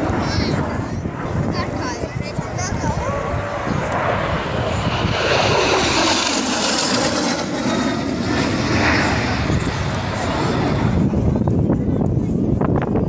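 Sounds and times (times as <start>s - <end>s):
jet engine rushing overhead: 0.0s - 13.0s.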